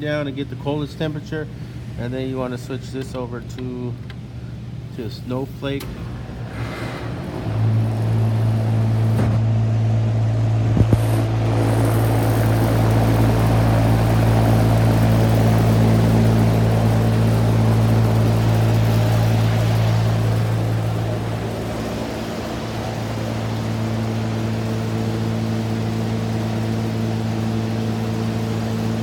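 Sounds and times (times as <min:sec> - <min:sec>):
air conditioner compressor hum: 0:00.0 - 0:29.0
blower rushing air: 0:04.2 - 0:29.0.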